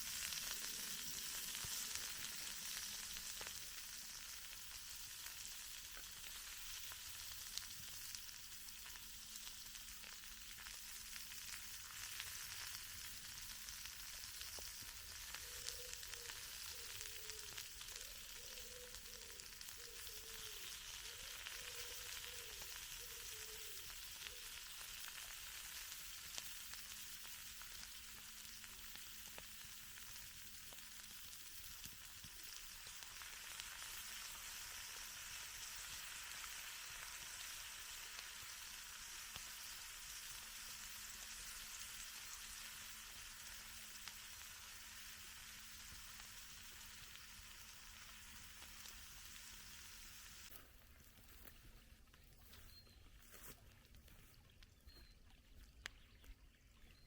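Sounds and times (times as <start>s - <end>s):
food sizzling and crackling: 0.0s - 51.6s.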